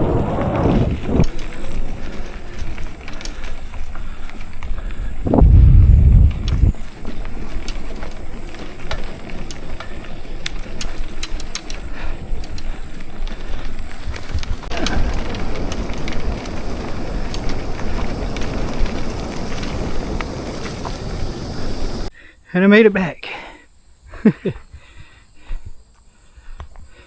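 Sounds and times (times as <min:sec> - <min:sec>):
bike clicks and rattles: 0:00.0 - 0:22.1
wind buffeting microphone: 0:00.0 - 0:22.1
bike tyres rolling over rough ground: 0:00.0 - 0:22.2.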